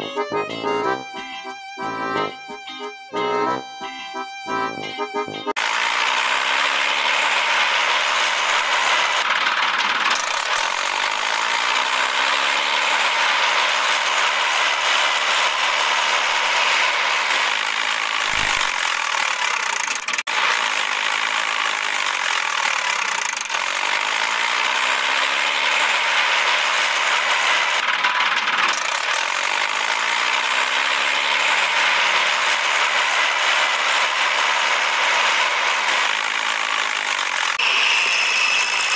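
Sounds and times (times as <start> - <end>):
toy motor and plastic gears clattering: 4.2 - 38.9.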